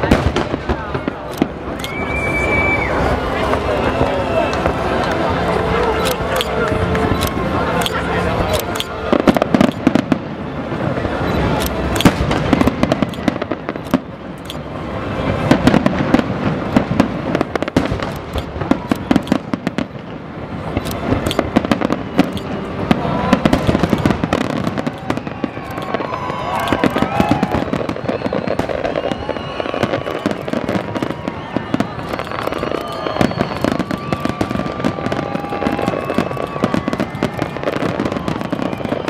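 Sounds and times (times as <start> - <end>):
fireworks bangs and crackle: 0.0 - 39.0.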